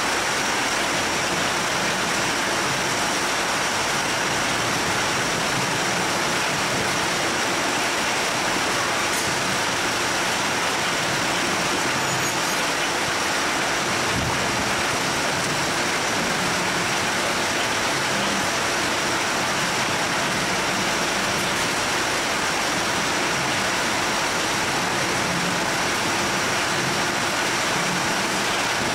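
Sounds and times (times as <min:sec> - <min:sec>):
roller-chain conveyor noise: 0:00.0 - 0:28.9.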